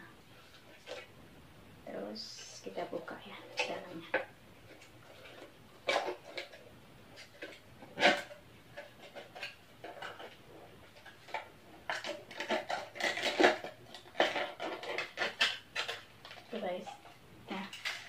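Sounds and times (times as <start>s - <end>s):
packaging crinkling and rustling: 3.0s - 18.0s.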